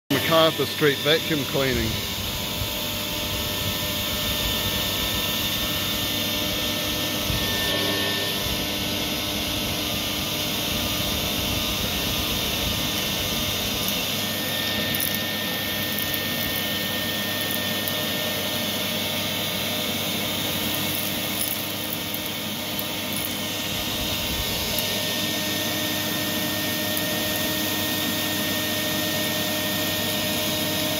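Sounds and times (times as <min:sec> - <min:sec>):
vacuum cleaner running: 0:00.1 - 0:30.9.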